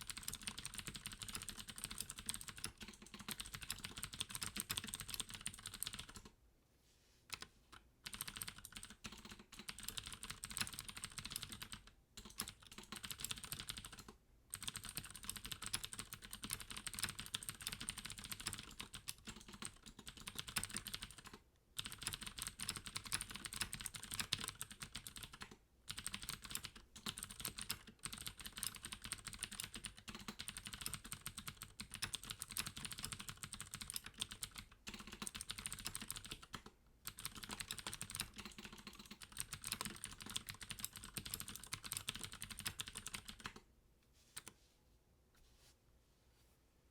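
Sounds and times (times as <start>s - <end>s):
clicky mechanical keyboard typing: 0.0s - 6.3s, 7.3s - 43.6s.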